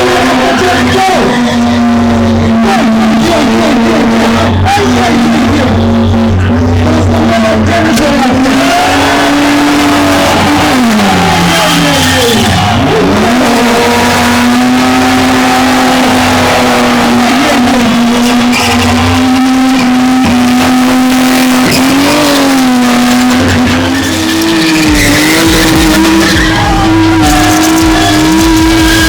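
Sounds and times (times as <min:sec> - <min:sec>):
car engine revving high: 0:00.0 - 0:29.0.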